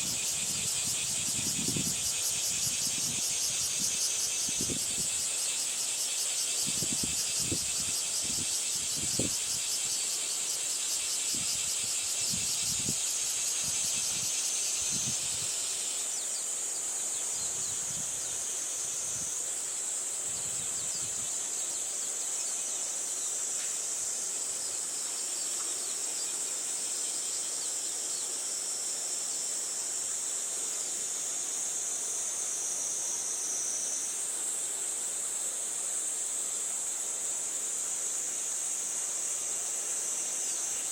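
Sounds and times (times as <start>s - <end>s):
insects chorus: 0.0s - 40.9s
rapidly pulsing insect call: 0.0s - 40.9s.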